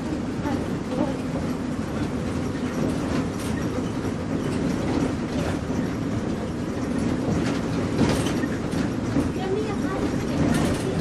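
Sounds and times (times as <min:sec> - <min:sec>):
bus body rattling: 0:00.0 - 0:11.0
bus engine and road rumble: 0:00.0 - 0:11.0.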